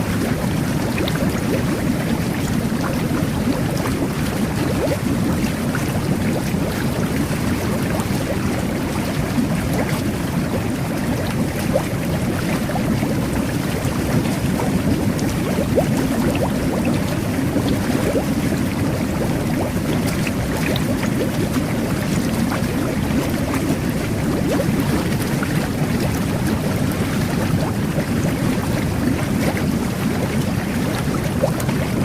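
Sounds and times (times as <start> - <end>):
jet bath water bubbling: 0.0 - 32.0
small bubble pops: 0.1 - 32.0.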